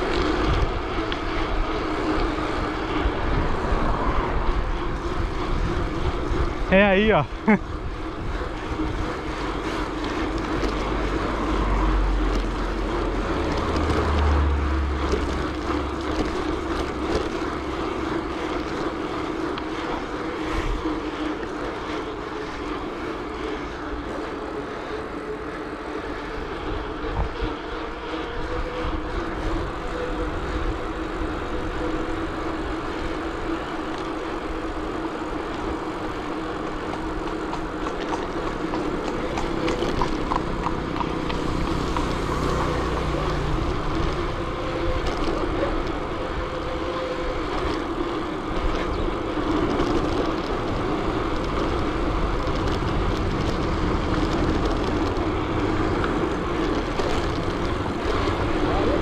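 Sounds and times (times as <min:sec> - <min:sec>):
bicycle tyres on road: 0:00.0 - 0:59.0
constant hum: 0:00.0 - 0:59.0
wind rumbling on microphone: 0:00.0 - 0:59.0.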